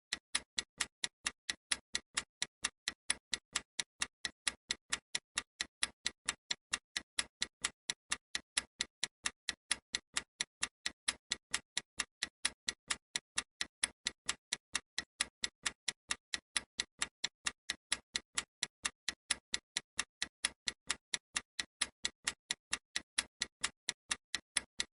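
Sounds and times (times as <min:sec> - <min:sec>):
clock ticking: 0:00.1 - 0:24.9.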